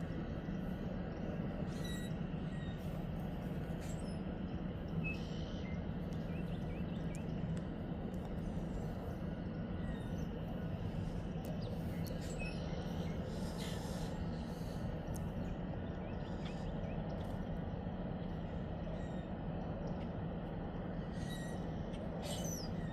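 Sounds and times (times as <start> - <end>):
constant rushing noise: 0.0 - 22.9
steady low hum: 0.0 - 22.9.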